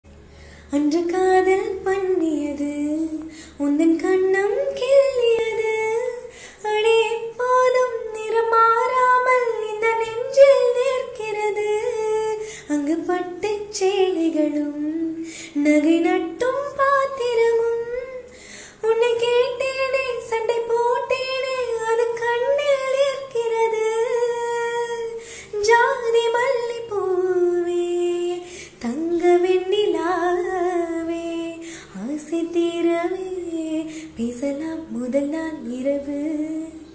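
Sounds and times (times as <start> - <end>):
woman singing slow melody: 0.7 - 36.9.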